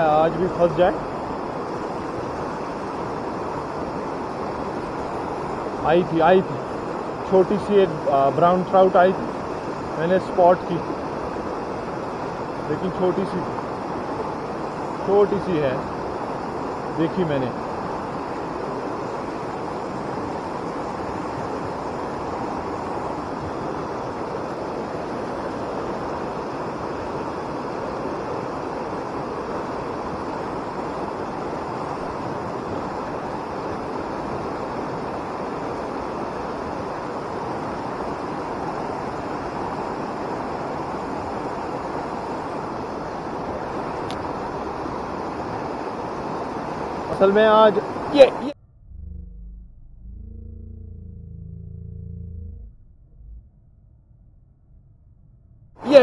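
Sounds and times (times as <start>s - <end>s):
fast stream rushing: 0.0s - 48.6s, 55.8s - 56.0s.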